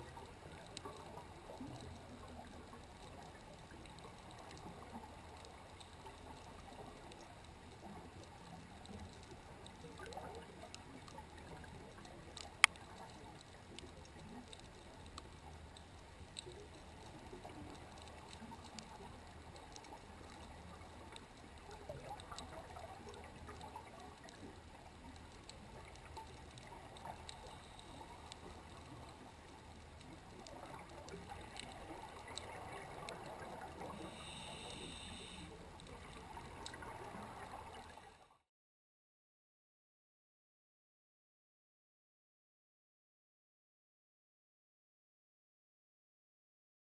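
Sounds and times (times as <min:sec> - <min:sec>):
small underwater clicks: 0:00.0 - 0:38.4
underwater water noise: 0:00.0 - 0:38.4.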